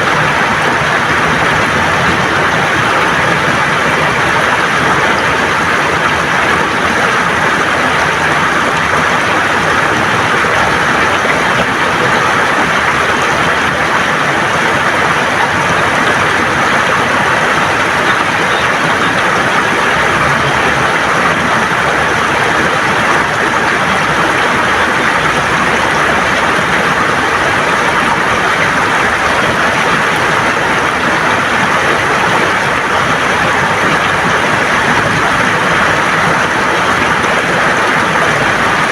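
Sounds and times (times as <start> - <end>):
river water gurgling over stones: 0.0 - 38.9.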